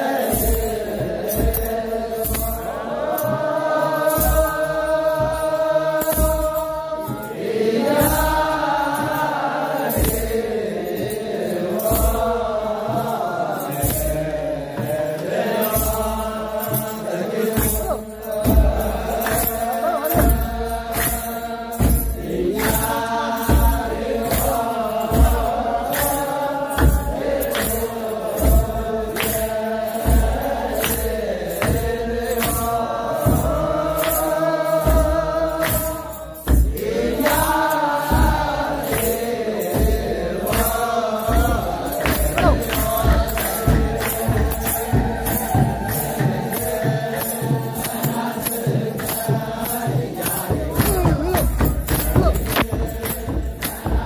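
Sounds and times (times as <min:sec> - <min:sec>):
chanters singing a hymn: 0:00.0 - 0:54.0
hand drums beating: 0:00.0 - 0:54.0
hand clapping: 0:00.2 - 0:54.0.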